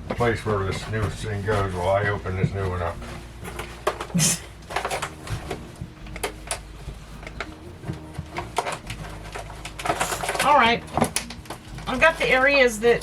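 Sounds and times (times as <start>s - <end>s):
packaging clicks and rustles: 0.0s - 13.0s.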